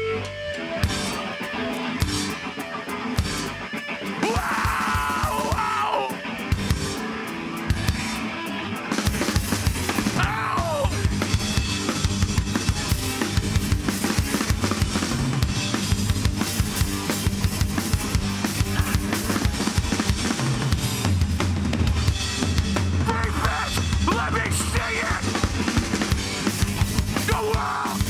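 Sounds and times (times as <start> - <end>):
hardcore band playing live: 0.0 - 28.0.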